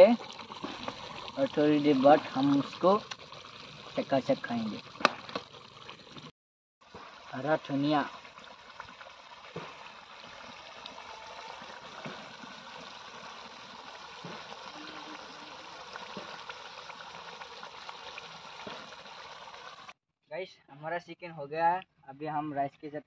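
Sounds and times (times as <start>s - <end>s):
curry bubbling and popping: 0.0s - 20.0s.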